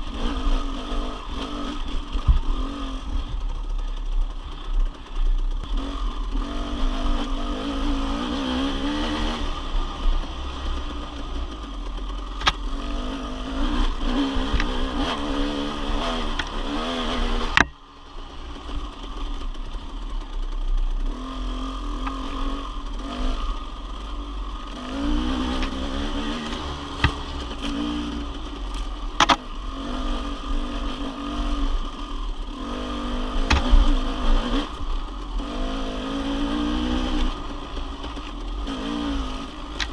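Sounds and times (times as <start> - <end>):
dirt bike engine revving: 0.0 - 20.0, 20.9 - 39.9.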